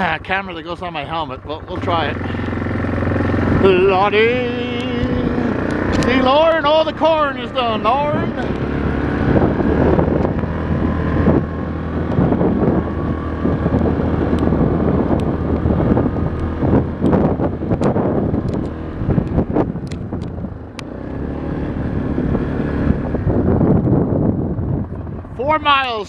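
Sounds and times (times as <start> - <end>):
quad bike engine running: 0.0 - 26.0
wind on microphone: 2.0 - 26.0.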